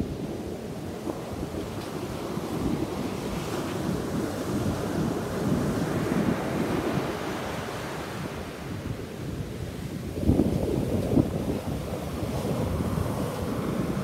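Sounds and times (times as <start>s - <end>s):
surf washing up beach: 0.0s - 14.0s.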